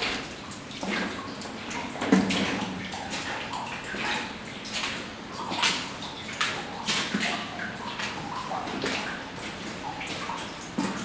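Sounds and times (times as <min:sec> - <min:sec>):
footsteps splashing through water: 0:00.0 - 0:11.0.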